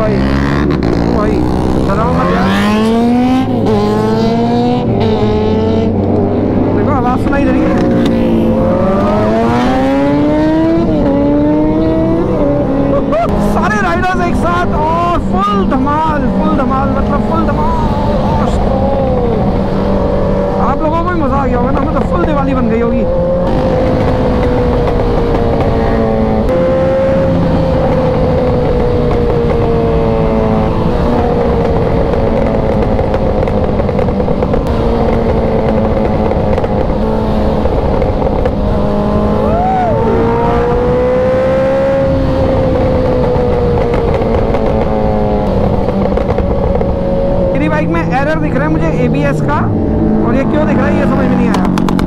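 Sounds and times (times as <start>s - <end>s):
steady engine drone: 0.0s - 52.0s
superbike engines revving: 0.0s - 52.0s.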